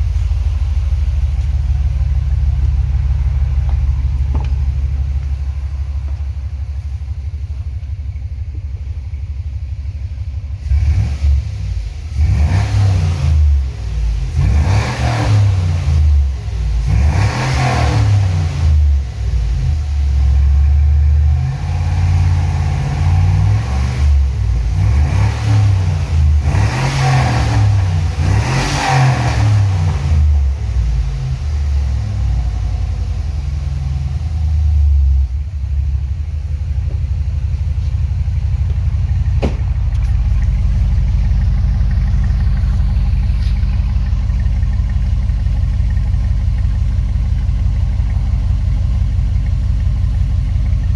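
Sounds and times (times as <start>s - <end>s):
truck engine revving and idling: 0.0s - 50.9s.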